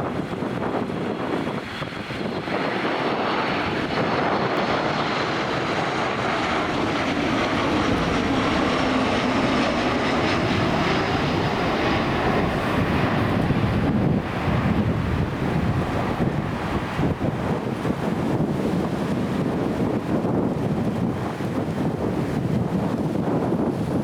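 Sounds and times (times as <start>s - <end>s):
jet airliner engine rush: 0.0s - 24.0s
wind on microphone: 0.0s - 24.0s.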